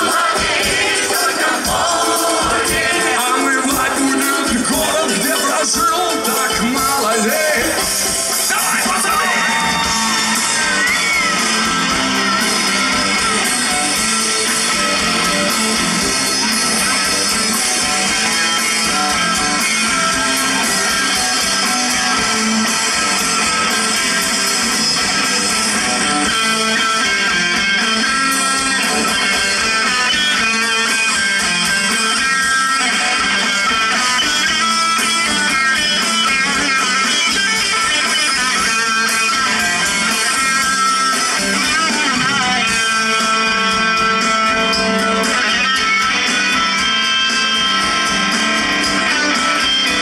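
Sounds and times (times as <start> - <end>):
electric guitar lead: 0.0 - 50.0
live band music: 0.0 - 50.0.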